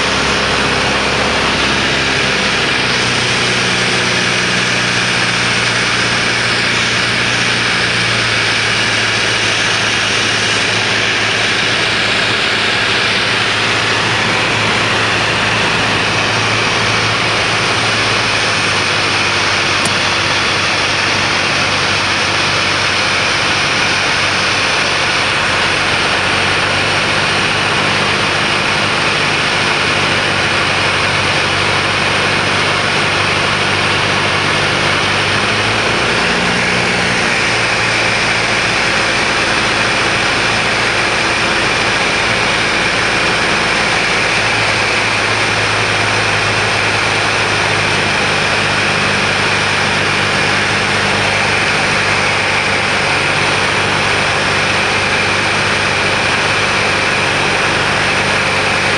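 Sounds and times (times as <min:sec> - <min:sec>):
aircraft engine drone: 0:00.0 - 0:58.9
rush of airflow: 0:00.0 - 0:58.9.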